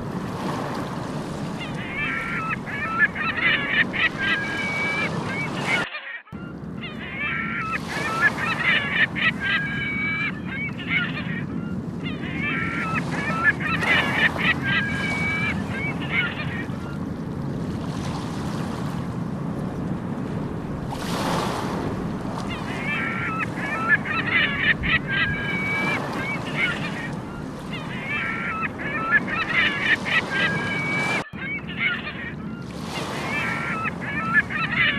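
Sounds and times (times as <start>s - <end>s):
waves breaking on beach: 0.0s - 5.9s, 6.6s - 34.9s
gulls calling: 0.1s - 34.9s.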